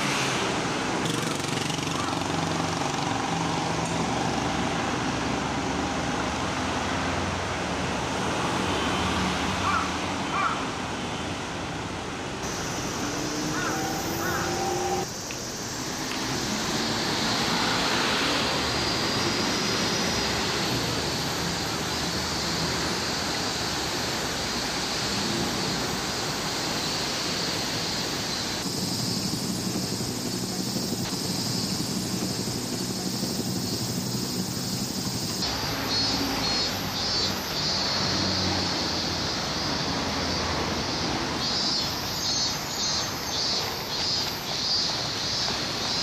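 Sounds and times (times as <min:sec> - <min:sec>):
traffic noise: 0:00.0 - 0:46.0.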